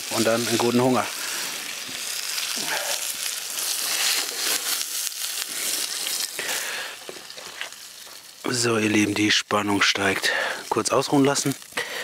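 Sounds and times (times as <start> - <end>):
crackles and pops: 0.0 - 12.0
meat sizzling on a grill: 0.0 - 12.0.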